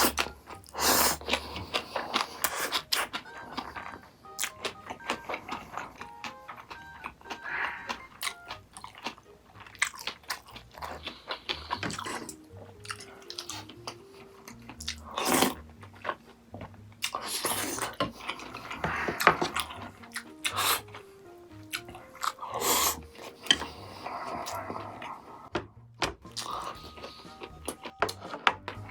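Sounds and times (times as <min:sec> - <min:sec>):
crunching and chewing: 0:00.0 - 0:25.5, 0:26.2 - 0:28.9
light background tune: 0:00.0 - 0:28.9.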